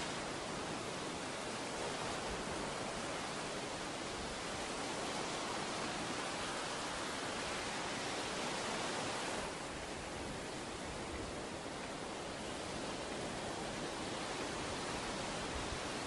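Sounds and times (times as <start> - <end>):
ocean surf hissing on beach: 0.0 - 16.0.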